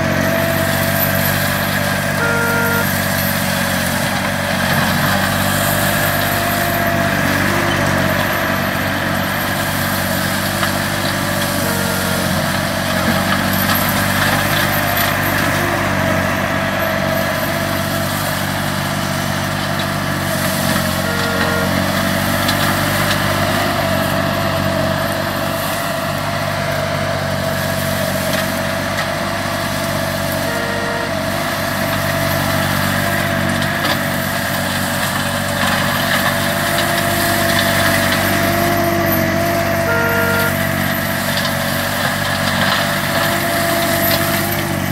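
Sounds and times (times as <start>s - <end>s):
mower engine running: 0.0s - 44.9s.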